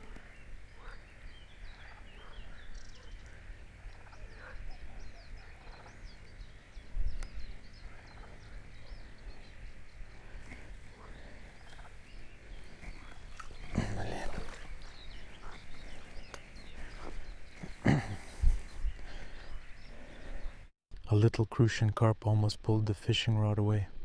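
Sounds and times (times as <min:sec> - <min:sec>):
wild birds chirping: 0:00.0 - 0:20.7.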